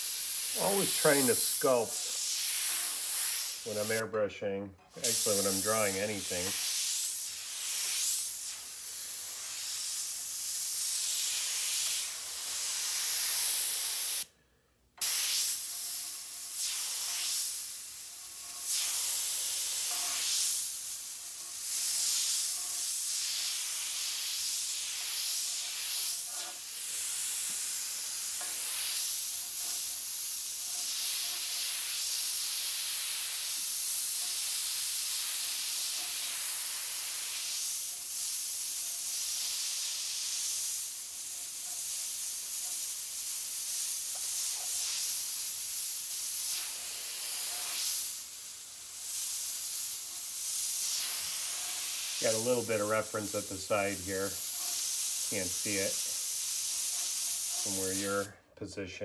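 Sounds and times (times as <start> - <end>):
airbrush spraying hiss: 0.0 - 4.2, 4.9 - 14.3, 15.0 - 58.4.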